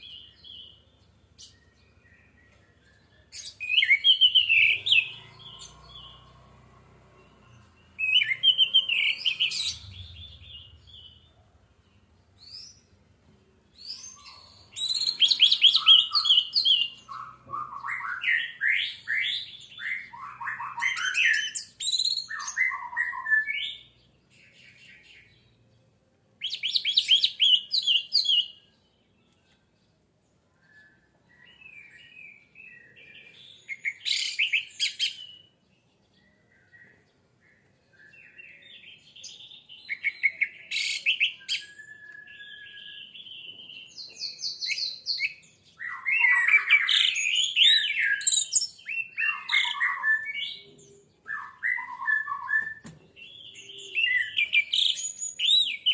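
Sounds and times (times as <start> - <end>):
thrush singing whistled trills: 1.4 - 6.5, 7.4 - 11.3, 13.8 - 25.3, 26.4 - 28.7, 30.5 - 35.6, 36.4 - 55.9.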